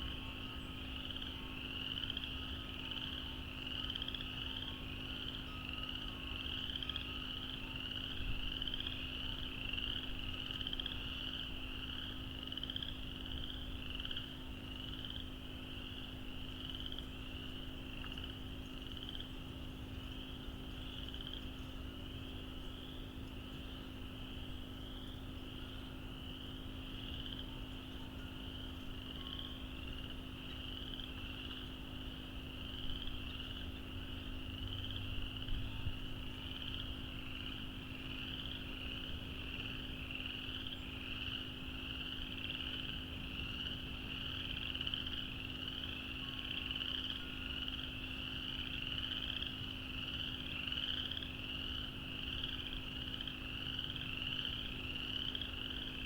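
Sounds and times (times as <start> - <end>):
frogs peeping in chorus: 0.0 - 56.0
low steady hum: 0.0 - 56.0.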